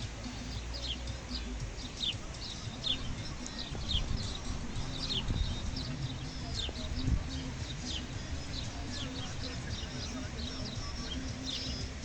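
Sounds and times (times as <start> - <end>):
wind rumble on microphone: 0.0 - 12.0
small bird chirping: 0.3 - 12.0.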